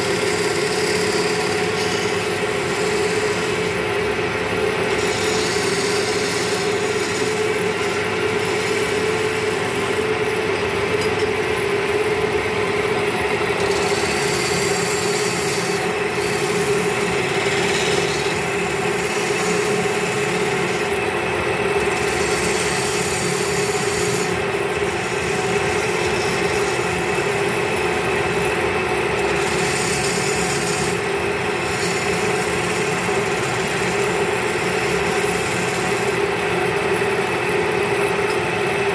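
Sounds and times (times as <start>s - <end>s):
chisel scraping spinning wood: 0.0s - 38.9s
wood lathe humming: 0.0s - 38.9s.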